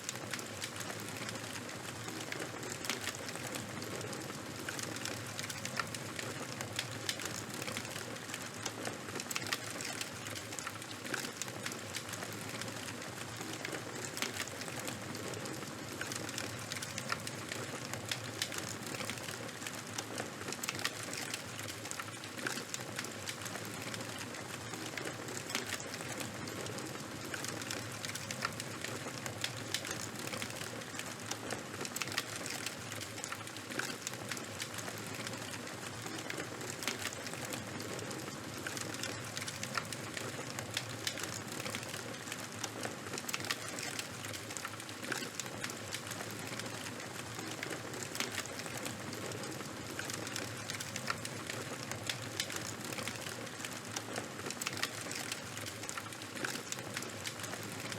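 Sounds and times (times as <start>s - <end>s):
bonfire crackling and hissing: 0.0s - 57.9s.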